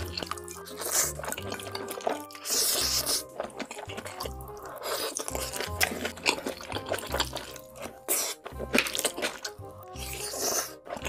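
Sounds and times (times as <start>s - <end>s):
wet chewing and slurping noodles: 0.0s - 11.0s.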